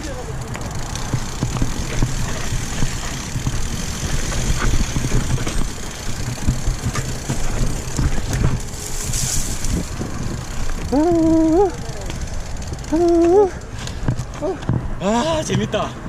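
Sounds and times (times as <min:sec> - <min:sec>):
bike rattling and knocking: 0:00.0 - 0:16.0
wind rumbling on microphone: 0:00.0 - 0:16.0.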